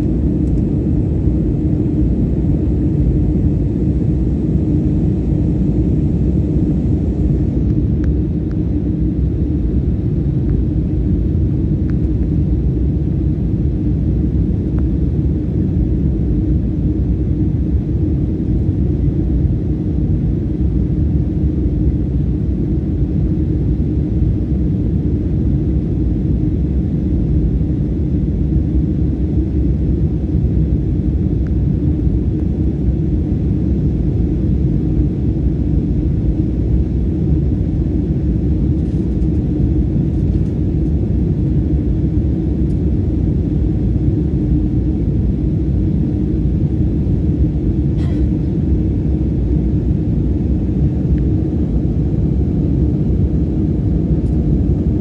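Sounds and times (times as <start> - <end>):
airliner engine and airflow roar: 0.0 - 55.0
steady hum: 0.0 - 55.0.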